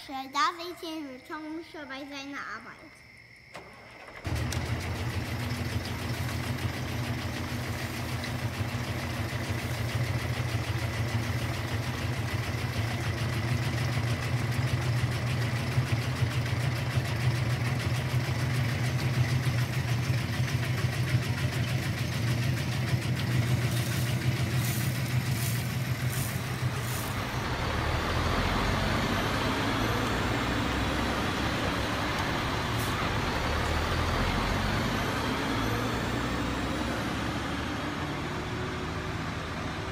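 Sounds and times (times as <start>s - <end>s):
toy truck engine sound: 3.5s - 39.9s.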